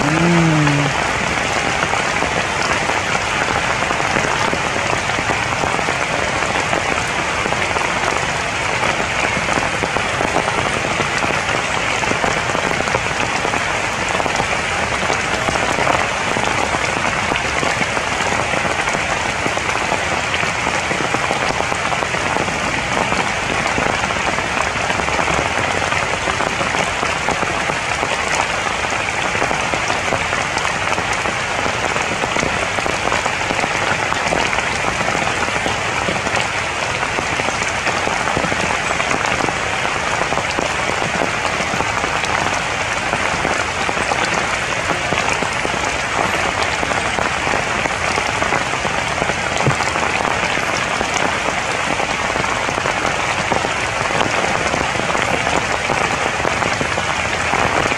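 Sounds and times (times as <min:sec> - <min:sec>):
rain on leaves: 0:00.0 - 0:57.9.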